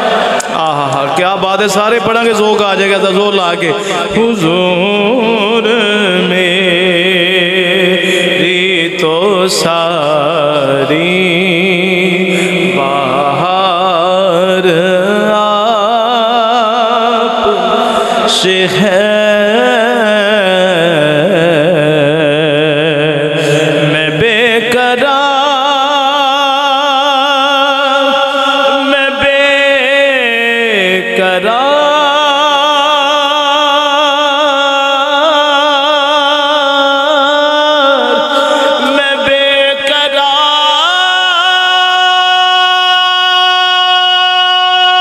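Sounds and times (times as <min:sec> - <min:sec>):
man singing into a microphone: 0:00.0 - 0:45.0.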